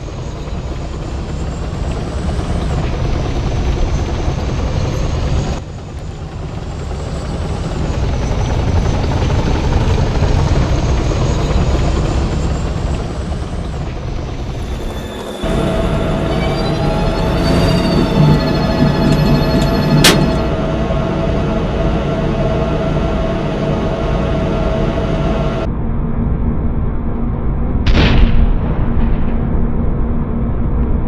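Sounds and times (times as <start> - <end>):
toy tank engine rumble and whine: 0.0 - 25.7.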